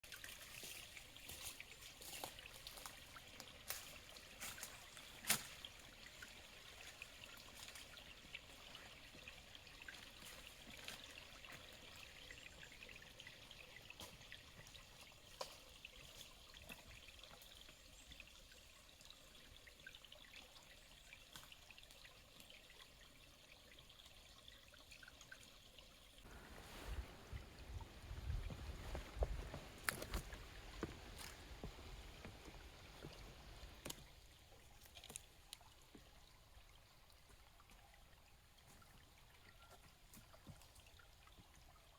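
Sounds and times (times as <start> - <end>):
faint trickling water: 0.0 - 41.9.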